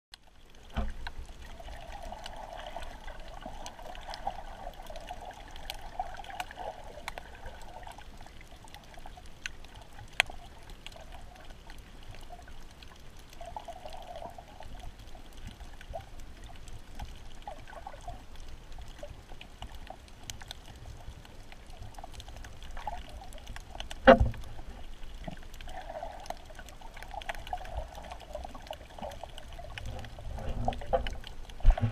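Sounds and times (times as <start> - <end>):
muffled underwater hiss: 0.4 - 31.9.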